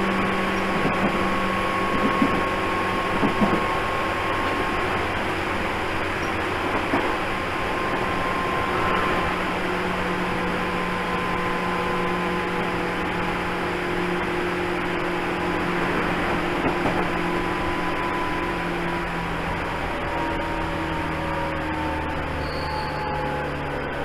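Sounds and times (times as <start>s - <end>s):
train car mechanical hum: 0.0s - 24.0s.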